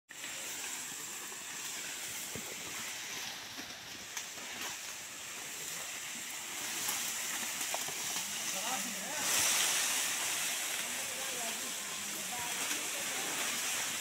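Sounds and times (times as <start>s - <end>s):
tall grass rustling: 0.1s - 14.0s.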